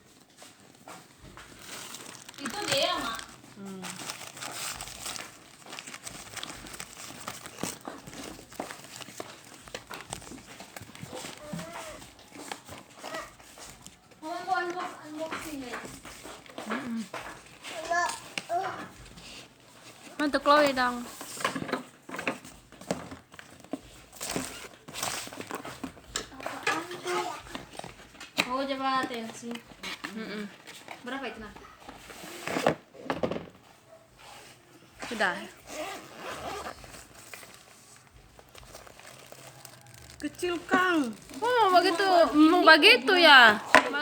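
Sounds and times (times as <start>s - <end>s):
plastic and cardboard crinkling: 0.0s - 44.0s.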